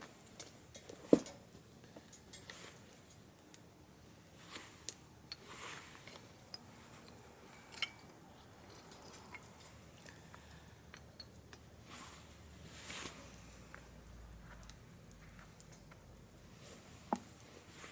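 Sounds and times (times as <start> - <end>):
wood fire crackling in a stove: 0.0 - 17.9.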